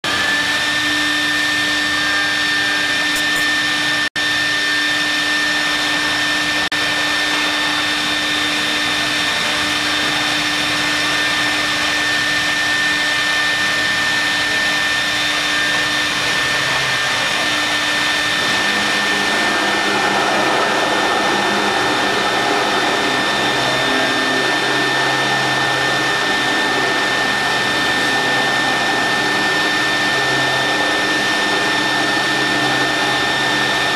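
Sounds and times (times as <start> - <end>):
milling machine high whine: 0.0 - 33.9.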